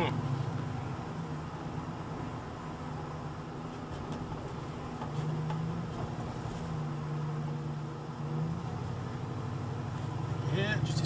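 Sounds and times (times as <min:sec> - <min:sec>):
low engine drone: 0:00.0 - 0:11.0
road noise: 0:00.0 - 0:11.0.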